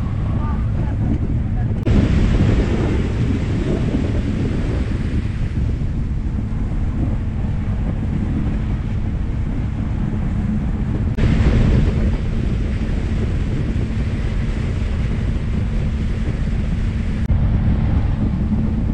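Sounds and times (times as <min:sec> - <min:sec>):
boat engine drone: 0:00.0 - 0:18.9
water rushing along hull: 0:00.0 - 0:18.9
wind buffeting microphone: 0:00.0 - 0:18.9.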